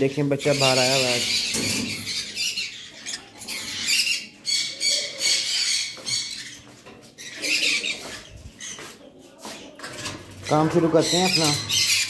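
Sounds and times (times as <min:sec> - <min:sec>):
parrots chattering and screeching: 0:00.2 - 0:12.0.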